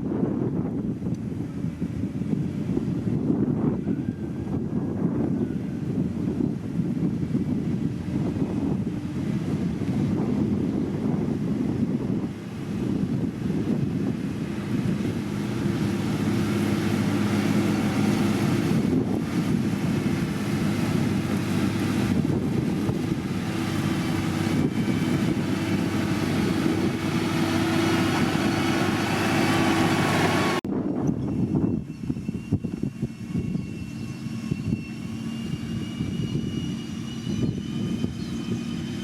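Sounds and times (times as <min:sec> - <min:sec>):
diesel engine running under load: 0:00.0 - 0:39.0.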